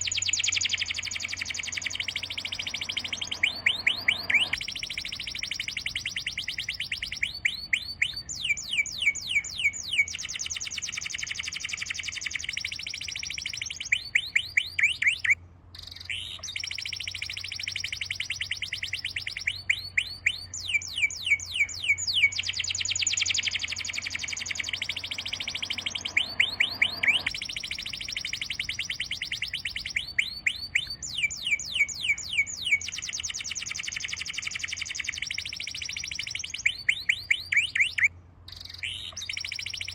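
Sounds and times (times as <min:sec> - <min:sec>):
songbird whistling and trilling: 0:00.0 - 0:39.9.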